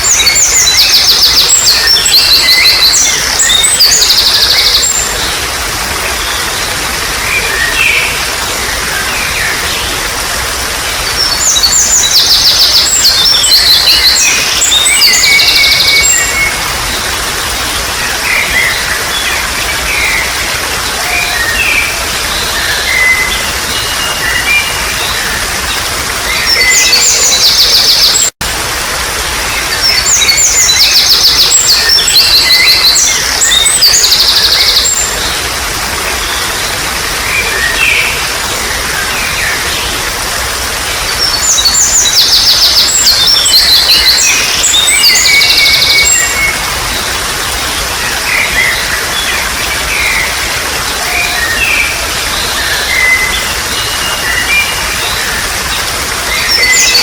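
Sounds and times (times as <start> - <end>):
birds trilling song: 0.0 - 57.0
trickle of flowing water: 0.0 - 57.0.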